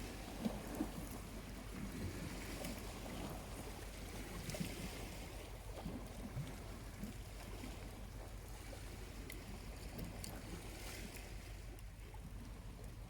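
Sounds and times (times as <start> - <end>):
small waves lapping: 0.0 - 13.0.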